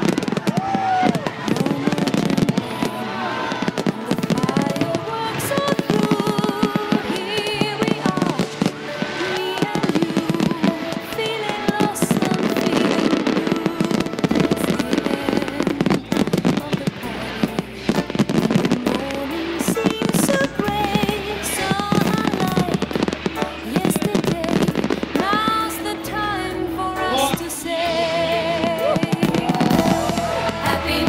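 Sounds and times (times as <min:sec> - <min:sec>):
firework bangs and crackling: 0:00.0 - 0:31.0
music: 0:00.0 - 0:31.0.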